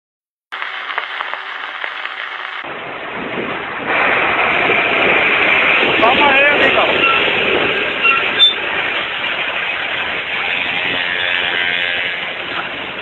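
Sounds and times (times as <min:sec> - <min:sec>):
moving vehicle rumbling: 0:00.5 - 0:13.0.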